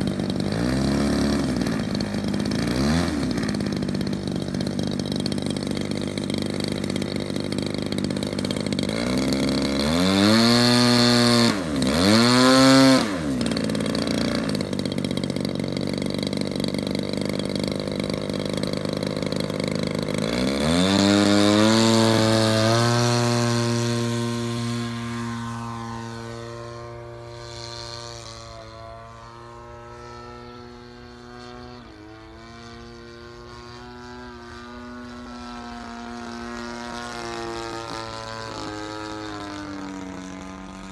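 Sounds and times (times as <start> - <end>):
propeller plane engine: 0.0 - 40.9.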